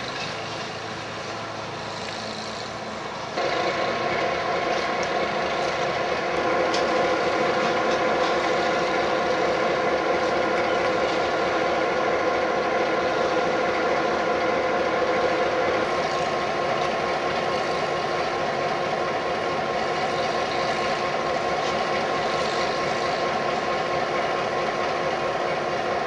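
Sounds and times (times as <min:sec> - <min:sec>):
diesel locomotive idling: 0:00.0 - 0:26.0.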